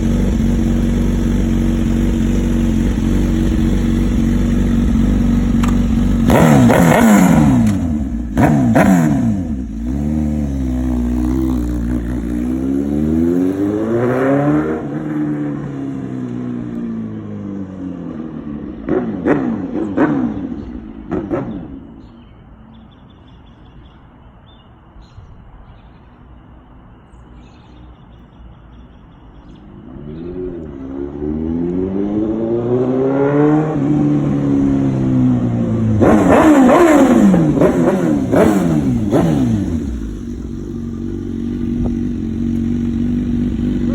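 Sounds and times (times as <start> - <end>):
motorcycle engine revving: 0.0 - 22.2, 29.4 - 43.9.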